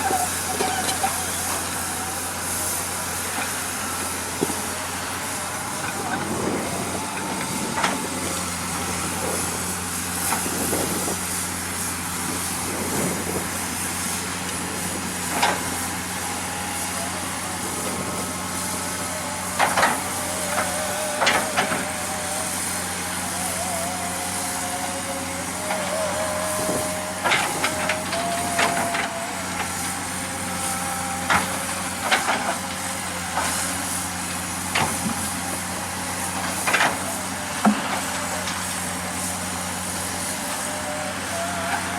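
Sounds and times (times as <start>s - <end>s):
wavering squeal: 0.0s - 11.2s, 14.6s - 34.4s, 35.1s - 41.9s
diesel engine running: 0.0s - 41.9s.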